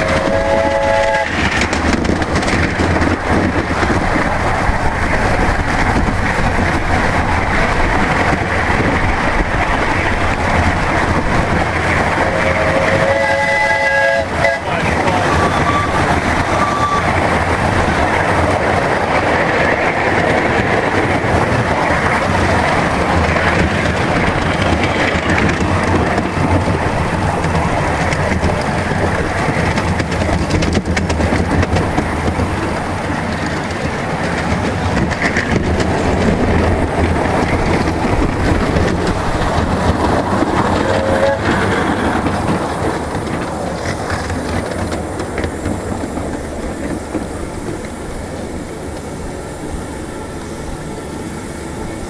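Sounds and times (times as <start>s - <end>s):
miniature steam train running: 0.0s - 52.0s.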